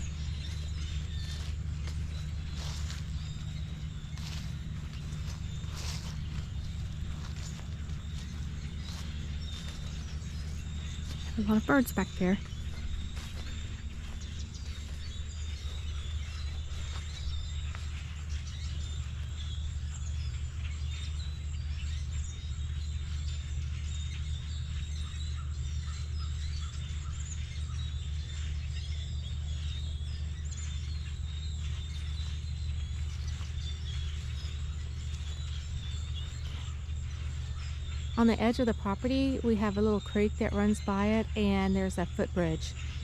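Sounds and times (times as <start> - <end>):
small birds chirping: 0.0 - 43.0
steady low rumble: 0.0 - 43.0.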